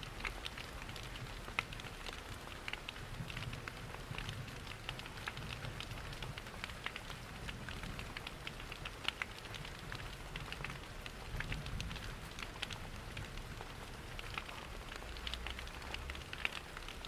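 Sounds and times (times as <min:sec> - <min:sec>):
rain pattering: 0:00.0 - 0:17.0
wood fire crackling: 0:00.0 - 0:17.0.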